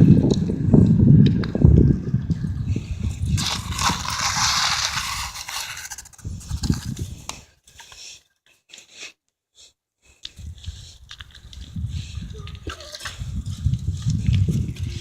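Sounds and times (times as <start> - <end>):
wind buffeting microphone: 0.0 - 7.5, 10.4 - 15.0.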